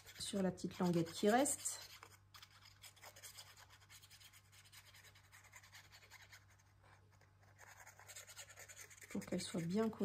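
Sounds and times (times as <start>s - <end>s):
glue nozzle scratching on paper: 0.0s - 10.0s.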